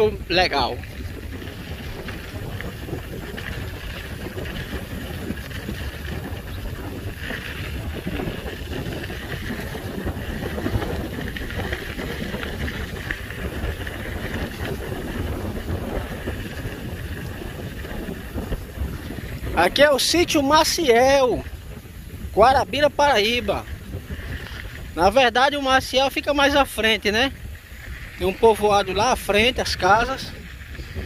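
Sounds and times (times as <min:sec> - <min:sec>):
bicycle tyres on dirt road: 0:00.0 - 0:31.0
wind buffeting microphone: 0:00.0 - 0:31.0.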